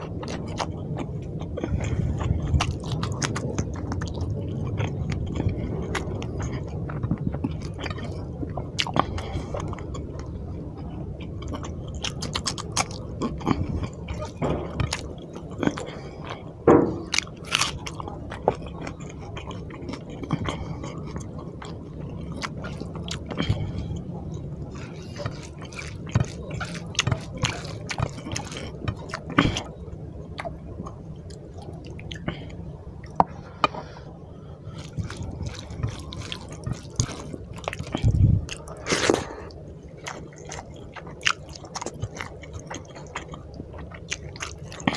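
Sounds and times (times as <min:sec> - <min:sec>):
person chewing with wet mouth sounds: 0:00.0 - 0:44.9.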